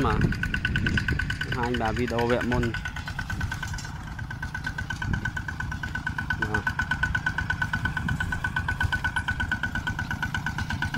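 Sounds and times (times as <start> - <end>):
tractor engine chugging: 0.0 - 10.9.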